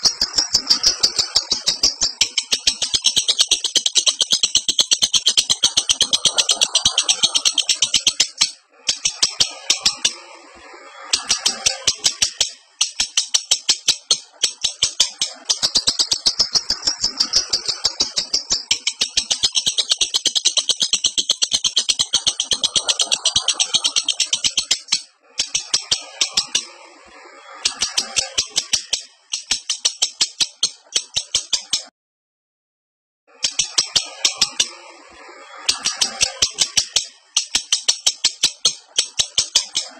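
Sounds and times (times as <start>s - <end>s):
bird chirping high-pitched: 0.0s - 31.9s, 33.3s - 39.9s.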